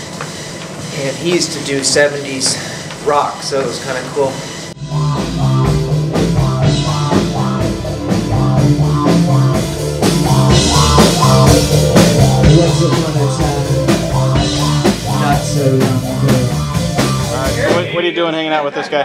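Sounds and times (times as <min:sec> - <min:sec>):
rock band playing: 0:00.0 - 0:18.8.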